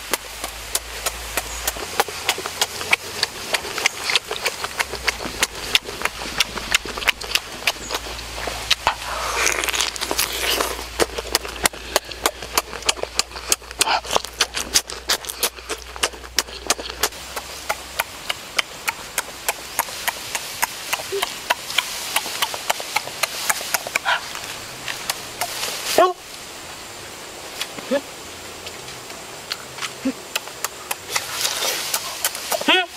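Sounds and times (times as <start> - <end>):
lip smacks and chewing: 0.0 - 25.7, 28.6 - 32.7
short throat sounds: 0.7 - 24.4, 29.8 - 32.9.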